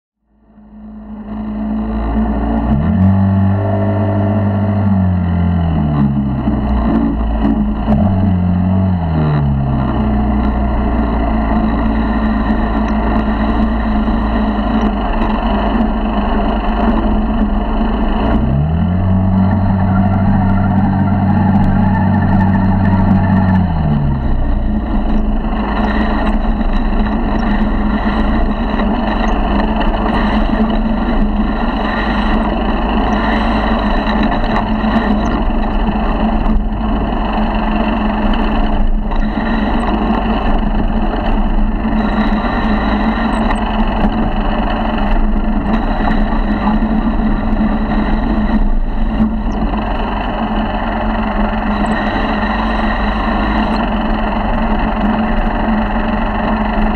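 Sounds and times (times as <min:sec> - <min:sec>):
motorized bicycle engine running: 0:09.4 - 0:56.9.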